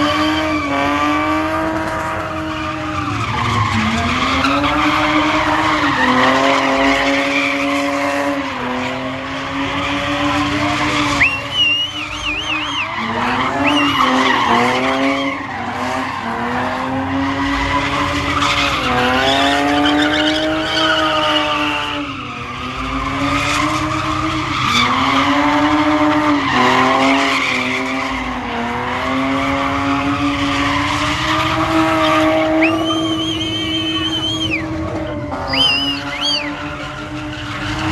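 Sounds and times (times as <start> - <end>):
car engine at high revs: 0.0 - 37.9
tyres squealing and skidding: 0.0 - 37.9.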